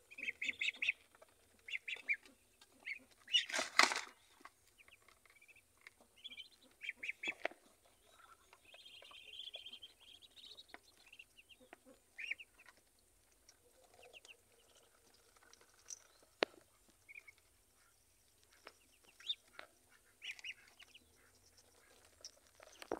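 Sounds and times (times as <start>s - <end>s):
ducklings peeping: 0.0s - 22.9s.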